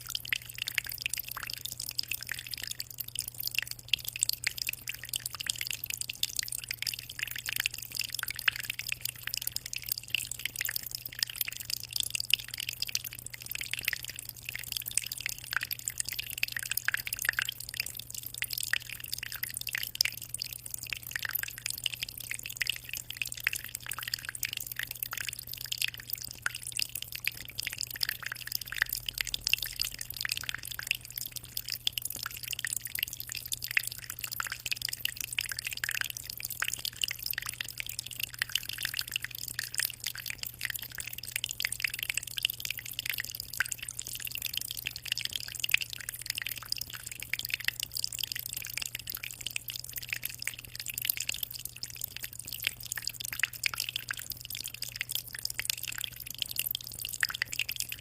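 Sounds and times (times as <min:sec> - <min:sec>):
water trickling into aquarium: 0:00.0 - 0:58.0.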